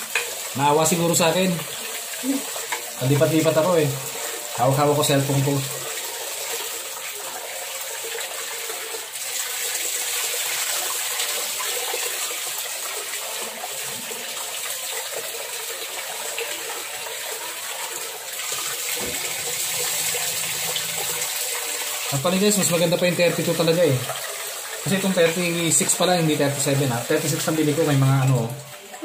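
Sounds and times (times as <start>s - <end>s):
rice washed by hand: 0.0s - 29.0s
tap water running into metal pot: 0.0s - 29.0s.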